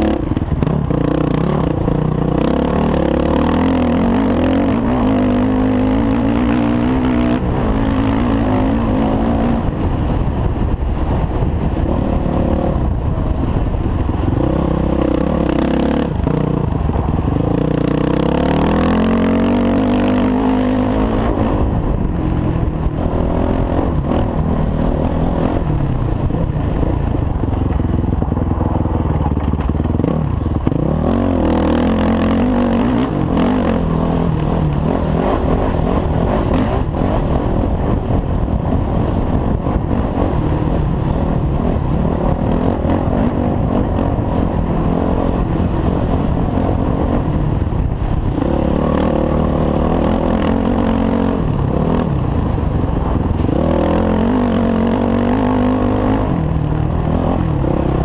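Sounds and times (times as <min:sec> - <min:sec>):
dirt bike engine revving: 0:00.0 - 0:10.2, 0:14.1 - 0:58.0.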